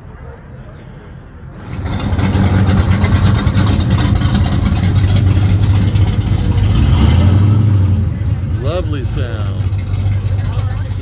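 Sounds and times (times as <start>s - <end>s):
car engine running: 1.6s - 11.0s.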